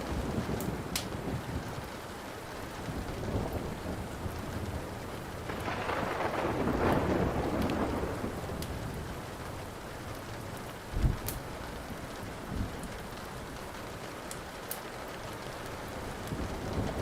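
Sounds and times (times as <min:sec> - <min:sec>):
steady rain: 0:00.0 - 0:17.0
wood fire crackles: 0:00.0 - 0:17.0.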